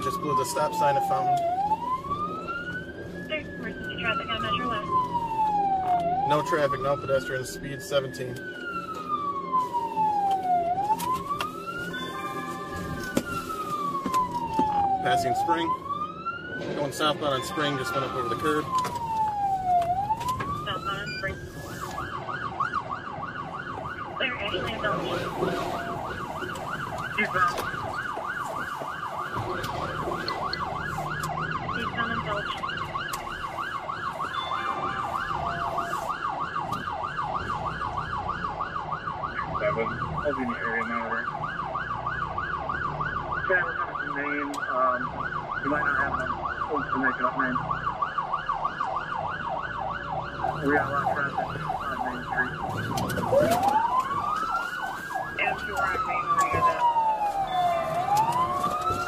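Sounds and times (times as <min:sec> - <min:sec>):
police siren: 0:00.0 - 0:59.0.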